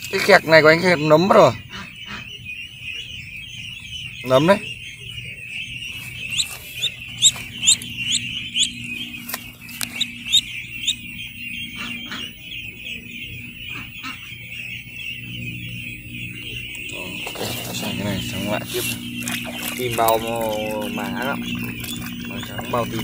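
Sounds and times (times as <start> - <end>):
ducklings peeping: 0.0 - 23.0
loud rising peeps: 0.0 - 23.0.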